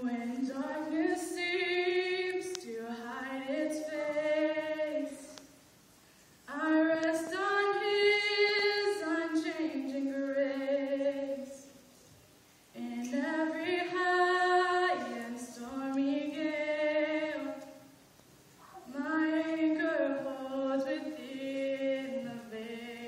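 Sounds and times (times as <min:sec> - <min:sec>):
woman singing unaccompanied: 0:00.0 - 0:05.5, 0:06.5 - 0:11.8, 0:12.8 - 0:17.9, 0:18.8 - 0:23.0.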